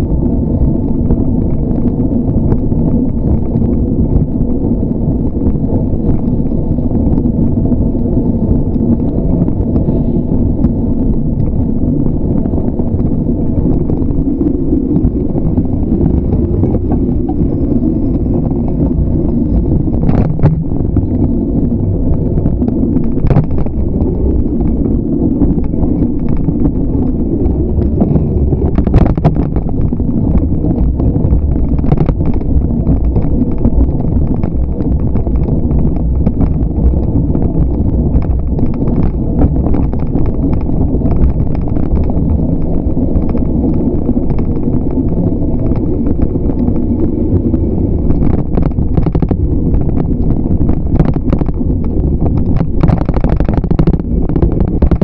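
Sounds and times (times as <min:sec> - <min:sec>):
bicycle clicks and rattles: 0:00.0 - 0:55.0
wind rumble on microphone: 0:00.0 - 0:55.0.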